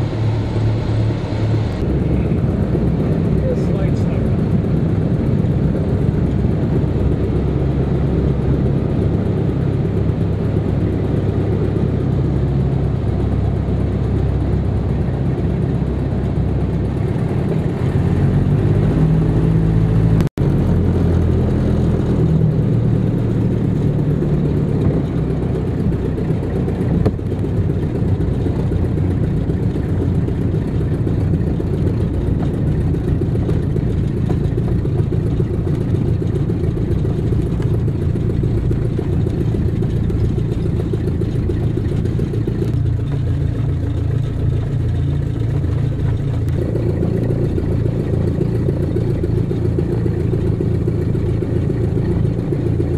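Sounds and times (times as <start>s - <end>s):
aircraft engines droning: 0.0s - 52.9s.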